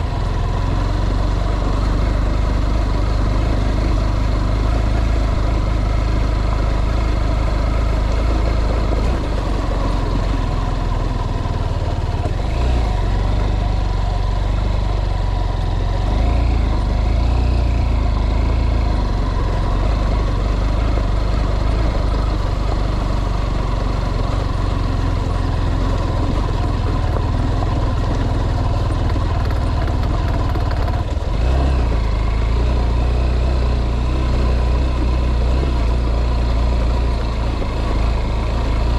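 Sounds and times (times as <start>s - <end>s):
road noise: 0.0s - 38.9s
vehicle engine rumble: 0.0s - 38.9s.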